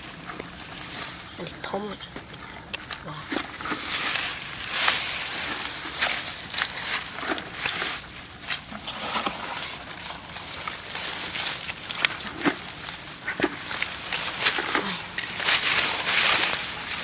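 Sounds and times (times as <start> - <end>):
dry straw rustling and crackling: 0.0 - 17.0.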